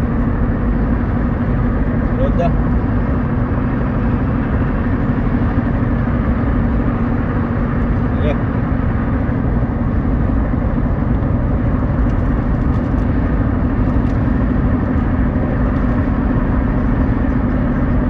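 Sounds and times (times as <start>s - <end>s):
car road noise on highway: 0.0s - 18.0s
constant low hum: 0.0s - 18.0s.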